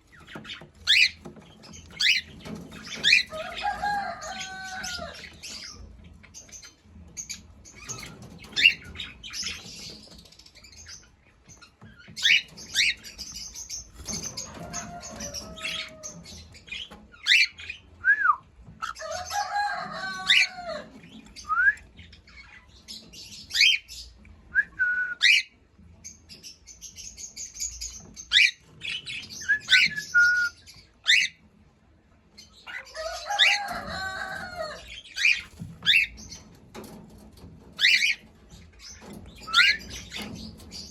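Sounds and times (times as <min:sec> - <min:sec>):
cockatiel chirping and calling: 0:00.1 - 0:17.9, 0:18.8 - 0:24.0, 0:25.2 - 0:25.6, 0:26.4 - 0:31.4, 0:32.5 - 0:37.0, 0:37.6 - 0:40.9.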